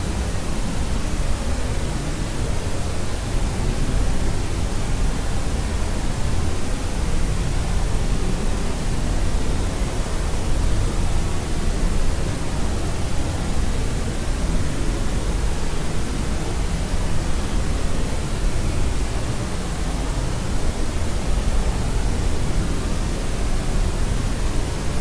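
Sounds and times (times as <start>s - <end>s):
white noise hiss: 0.0s - 25.0s.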